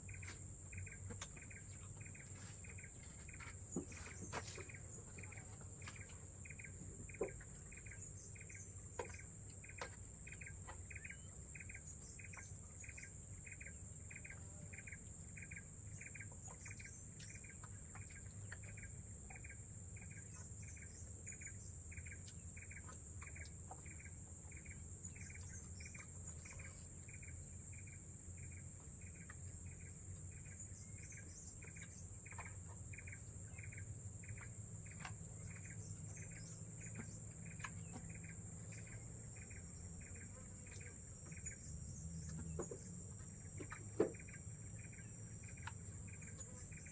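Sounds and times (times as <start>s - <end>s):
pulsed insect call: 0.0s - 46.9s.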